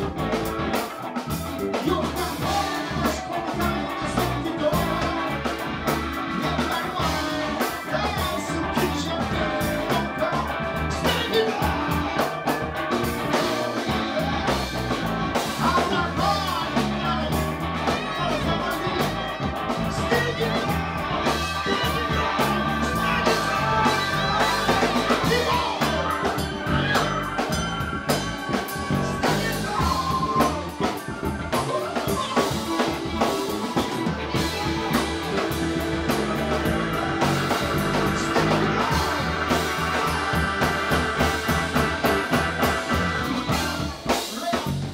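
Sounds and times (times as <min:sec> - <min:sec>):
drum kit: 0:00.0 - 0:44.9
electric bass: 0:00.0 - 0:44.9
electric guitars: 0:00.0 - 0:44.9
keyboard: 0:00.0 - 0:44.9
man singing into a microphone: 0:01.7 - 0:41.6, 0:42.3 - 0:44.9.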